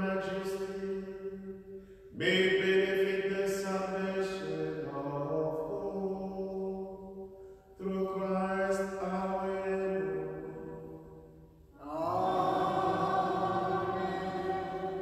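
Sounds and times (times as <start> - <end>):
slow hymn in held notes: 0.0 - 15.0.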